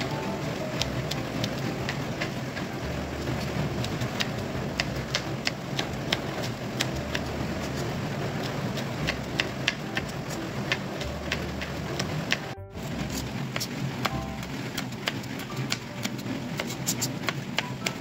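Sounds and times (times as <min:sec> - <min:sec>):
knife tapping cutting board: 0:00.0 - 0:18.0
low background hum: 0:00.0 - 0:18.0.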